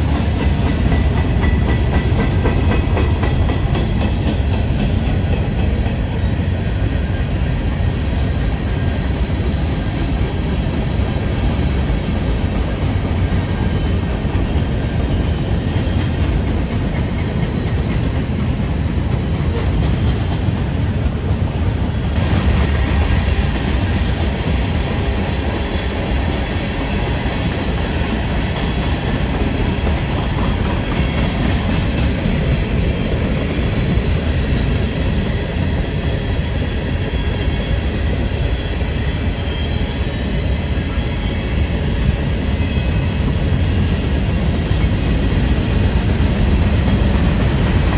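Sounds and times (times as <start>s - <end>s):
freight train rolling past: 0.0s - 47.9s.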